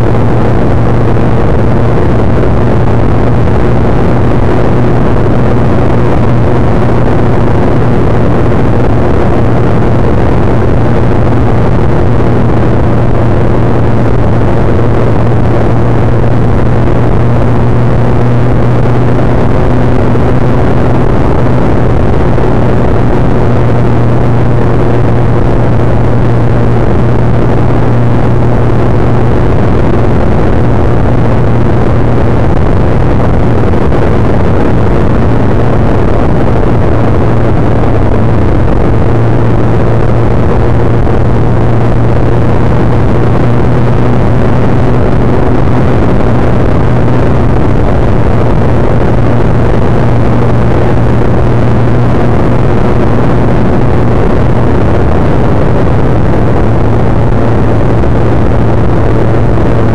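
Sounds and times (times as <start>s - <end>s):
motorcycle engine droning: 0.0s - 59.9s
wind rushing over microphone: 0.0s - 59.9s.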